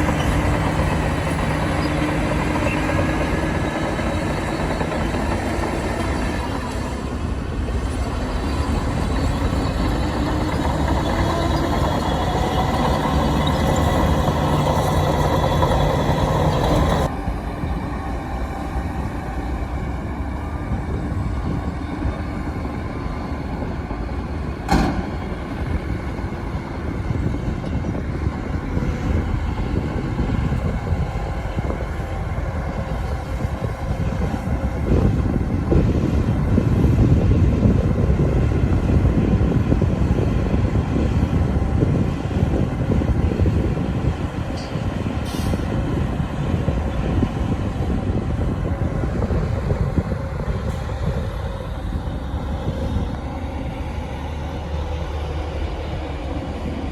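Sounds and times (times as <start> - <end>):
heavy diesel engines working: 0.0 - 56.9.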